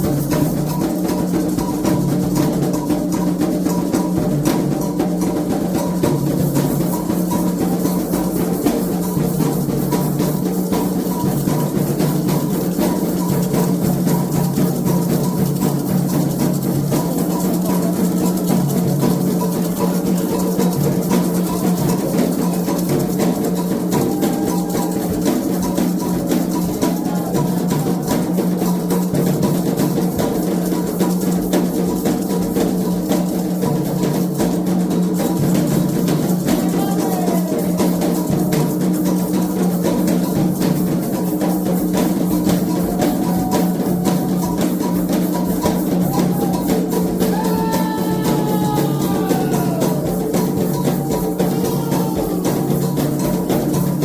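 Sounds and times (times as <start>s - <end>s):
hand drums playing fast rhythm: 0.0s - 54.0s.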